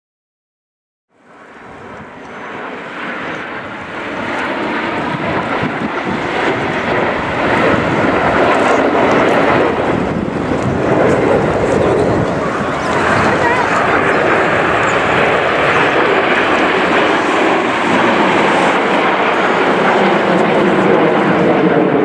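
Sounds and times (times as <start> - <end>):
jet aircraft flying past: 1.1 - 22.0.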